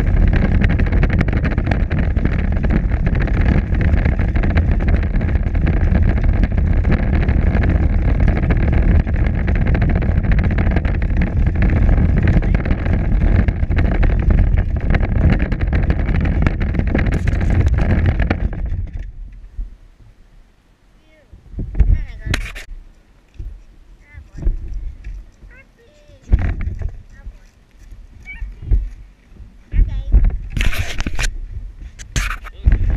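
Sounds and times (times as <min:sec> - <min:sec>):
toy car wheels rumbling on concrete: 0:00.0 - 0:19.5, 0:21.8 - 0:22.7, 0:24.2 - 0:32.9.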